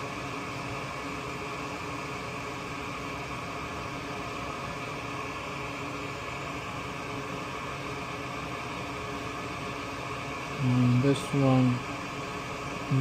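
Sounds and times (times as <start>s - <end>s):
vent fan whirring: 0.0s - 13.0s.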